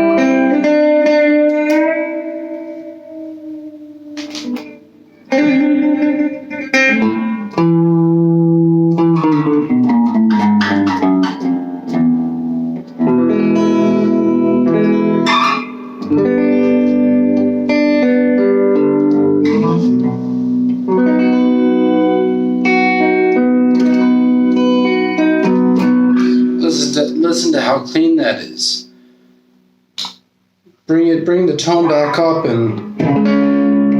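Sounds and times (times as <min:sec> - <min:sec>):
clean electric guitar chords: 0:00.0 - 0:30.2, 0:31.3 - 0:33.9.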